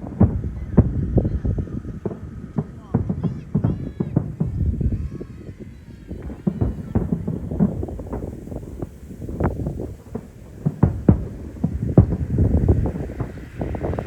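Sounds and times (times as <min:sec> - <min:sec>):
continuous rumble: 0:00.0 - 0:14.0
fireworks booming: 0:00.0 - 0:14.0.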